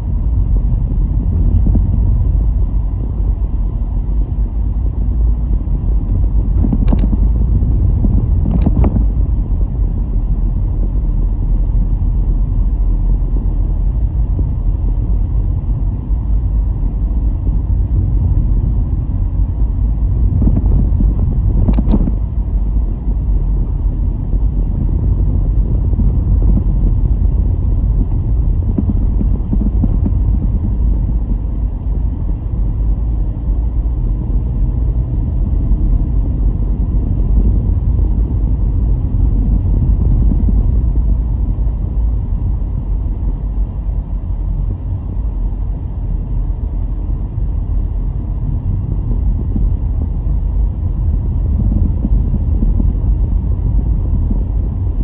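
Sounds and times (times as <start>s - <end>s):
car tyres and engine rumbling: 0.0s - 55.0s.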